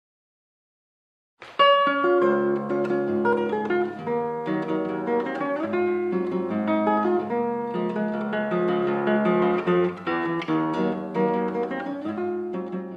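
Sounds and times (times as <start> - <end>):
acoustic guitar playing: 1.4 - 12.9.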